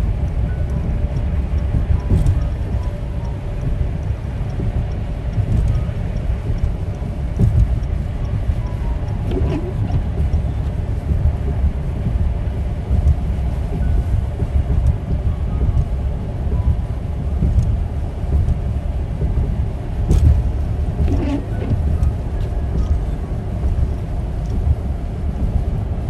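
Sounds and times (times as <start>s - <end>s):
vehicle rumbling on road: 0.0s - 26.0s.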